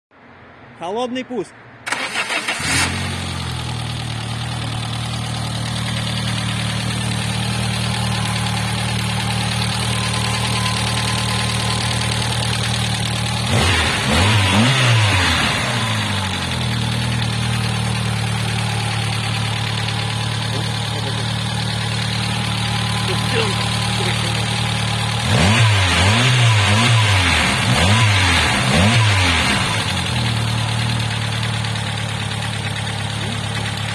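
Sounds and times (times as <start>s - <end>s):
car engine starting and idling: 1.8s - 33.9s.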